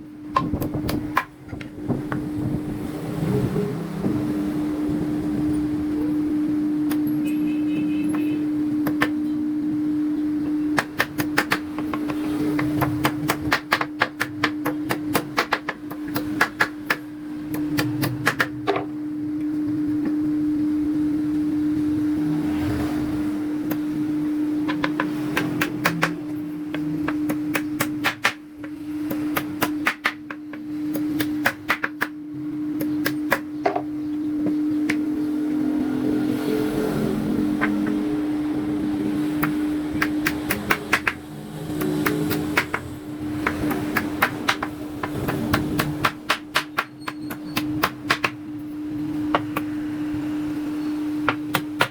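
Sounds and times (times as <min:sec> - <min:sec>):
machine hum: 0:00.0 - 0:51.9.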